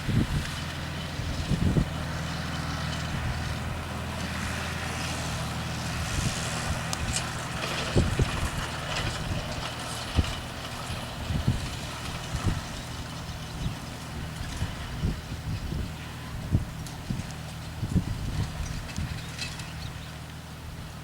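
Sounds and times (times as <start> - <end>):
harvester engine running: 0.0 - 21.0.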